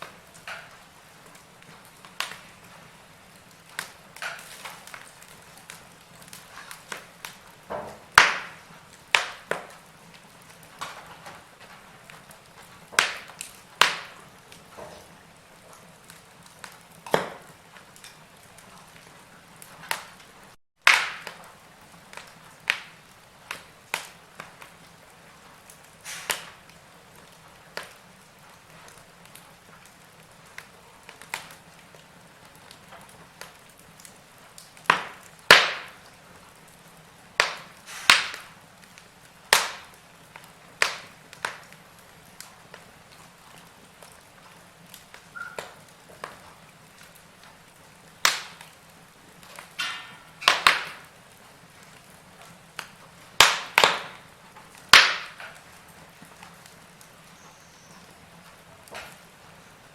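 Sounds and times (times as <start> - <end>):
log fire crackling and popping: 0.0 - 59.9
soft hiss of burning wood: 0.0 - 59.9.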